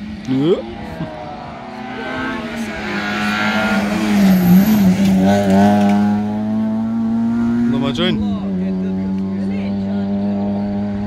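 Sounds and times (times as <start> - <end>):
rally car passing by: 0.0 - 11.0.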